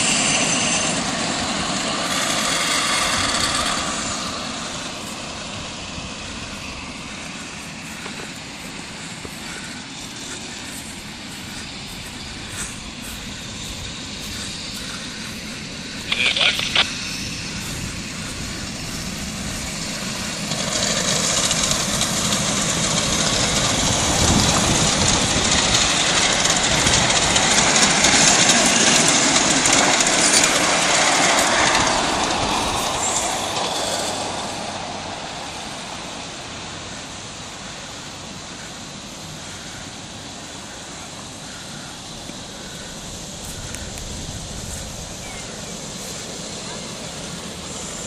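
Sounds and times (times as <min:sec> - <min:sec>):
miniature train rolling on track: 0:00.0 - 0:16.2, 0:17.0 - 0:48.0.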